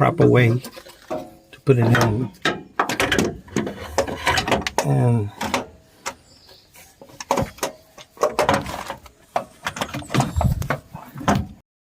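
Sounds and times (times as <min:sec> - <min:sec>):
metal knocks and clanks: 0:00.0 - 0:05.8, 0:07.0 - 0:11.6.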